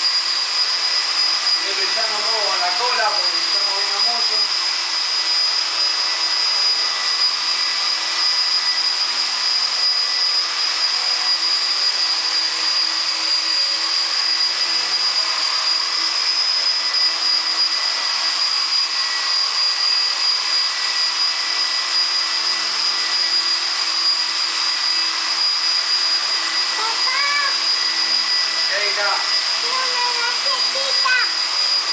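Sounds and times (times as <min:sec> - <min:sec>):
rc helicopter motor whine: 0:00.0 - 0:31.9
rotor blades hissing: 0:00.0 - 0:31.9.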